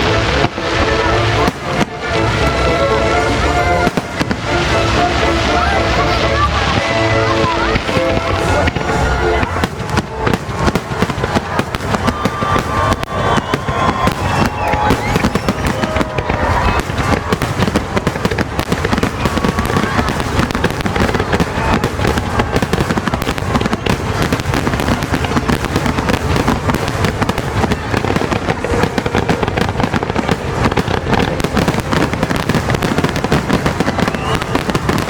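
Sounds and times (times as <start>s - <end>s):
fireworks banging and crackling: 0.0s - 35.0s.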